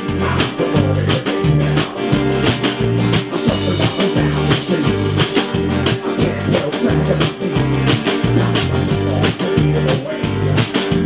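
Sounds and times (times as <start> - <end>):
pulsing bass line: 0.0 - 11.0
steady drum beat: 0.0 - 11.0
strummed guitars: 0.0 - 11.0.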